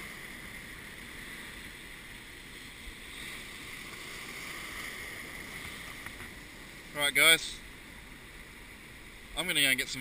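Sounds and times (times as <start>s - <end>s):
surf breaking over rocks: 0.0s - 10.0s.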